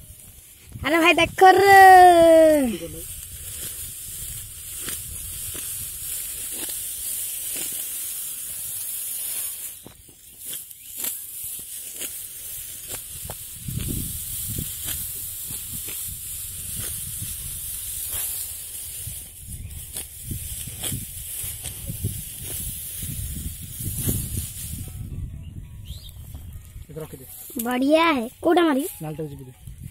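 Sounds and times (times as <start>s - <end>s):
dry straw rustling and crackling: 0.0s - 29.9s.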